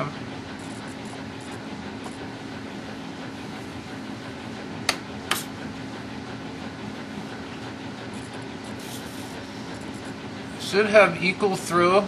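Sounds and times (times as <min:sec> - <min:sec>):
steady hum and hiss: 0:00.0 - 0:12.0.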